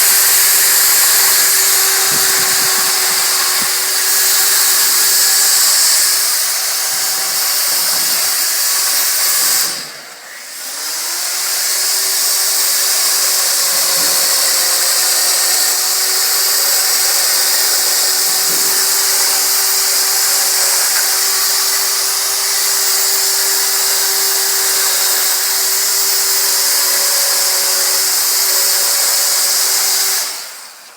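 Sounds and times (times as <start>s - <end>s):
chainsaw cutting wood: 0.0s - 30.9s.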